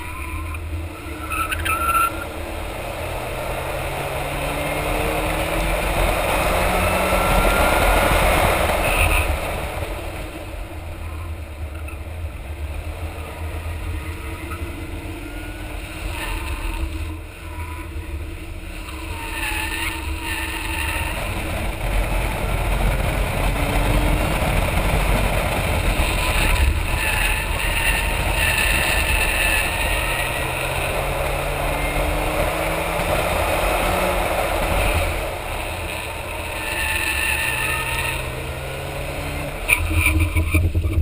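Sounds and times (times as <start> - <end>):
car engine rising and falling: 0.0 - 41.0
tyre and road noise: 0.0 - 41.0.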